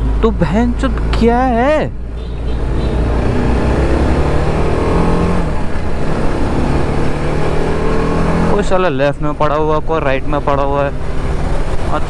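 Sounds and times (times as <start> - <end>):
motorcycle engine running: 0.0 - 8.9, 9.8 - 12.0
low wind rumble: 0.0 - 12.0.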